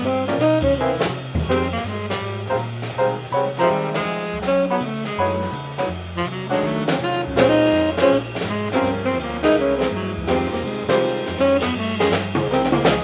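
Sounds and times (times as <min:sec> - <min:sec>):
jazz music with horns: 0:00.0 - 0:13.0.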